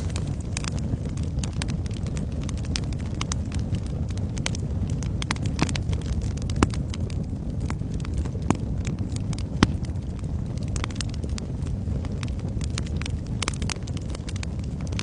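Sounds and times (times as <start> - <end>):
fire crackling and popping: 0.0 - 15.0
roar of flames: 0.0 - 15.0.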